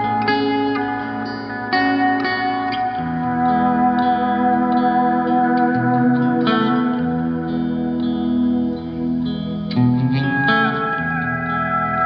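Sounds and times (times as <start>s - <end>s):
guitar chord strummed: 0.0s - 12.0s.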